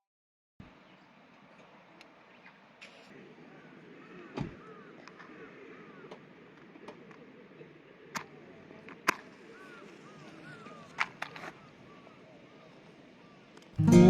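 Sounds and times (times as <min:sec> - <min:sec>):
faint bird chirps: 0:00.7 - 0:13.7.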